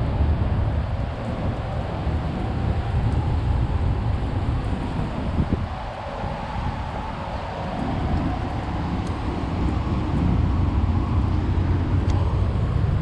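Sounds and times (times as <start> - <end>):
road traffic rumble: 0.0 - 13.0
wind noise: 0.0 - 13.0.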